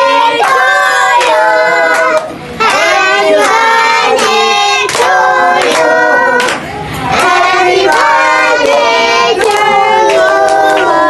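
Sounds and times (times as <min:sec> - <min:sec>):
child-like voices singing: 0:00.0 - 0:11.0.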